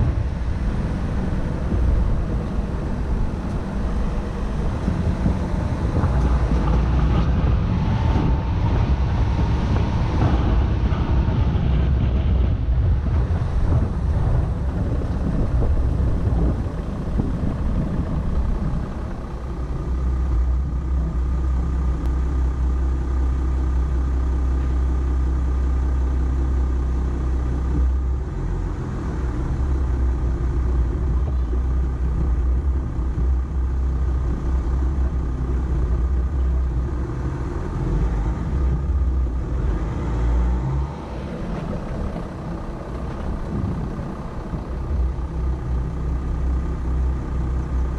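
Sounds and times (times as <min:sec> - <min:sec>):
pickup engine running: 0:00.0 - 0:47.9.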